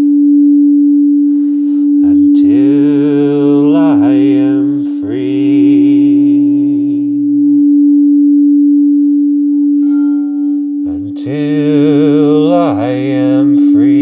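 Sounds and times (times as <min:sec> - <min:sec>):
singing bowl tone: 0:00.0 - 0:14.0
man singing held note with vibrato: 0:01.4 - 0:08.0, 0:09.1 - 0:14.0.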